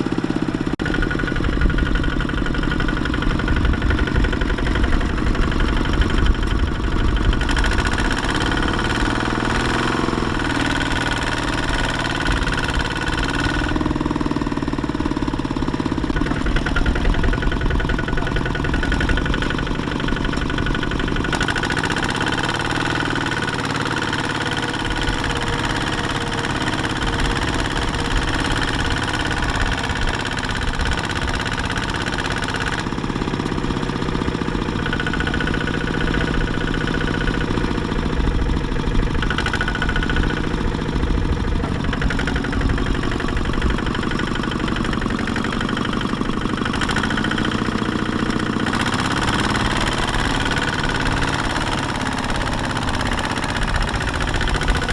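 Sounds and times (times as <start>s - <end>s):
walking tractor diesel engine running: 0.0s - 54.9s.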